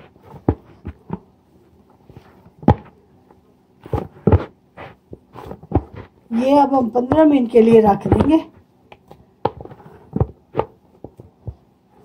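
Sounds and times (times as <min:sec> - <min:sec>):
dough thumping and slapping in bowl: 0:00.0 - 0:01.4, 0:02.0 - 0:03.0, 0:03.8 - 0:12.0.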